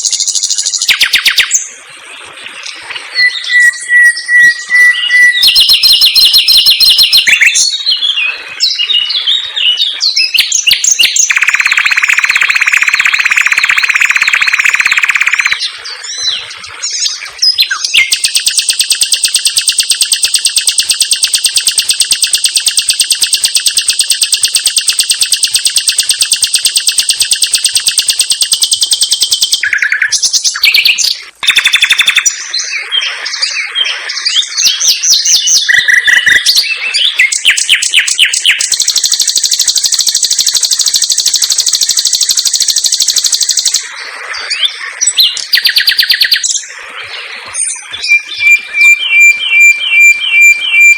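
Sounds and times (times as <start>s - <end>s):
nightingale singing: 0.0s - 1.8s, 3.1s - 50.9s.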